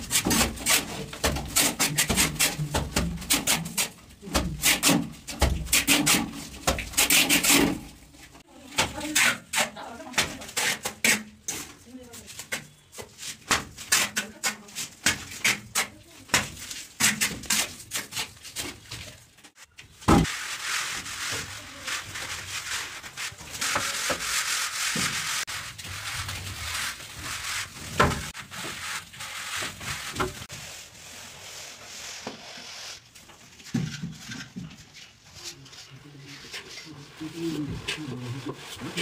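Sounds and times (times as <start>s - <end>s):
plastering tools scraping plaster: 0.0s - 39.0s.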